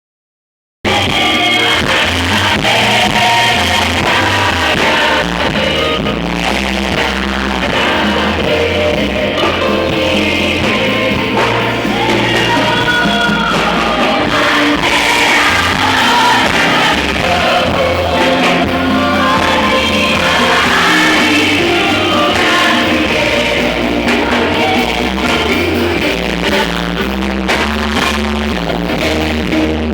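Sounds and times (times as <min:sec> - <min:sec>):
rock music with singing: 0:00.9 - 0:29.9
steady bass line: 0:00.9 - 0:29.9.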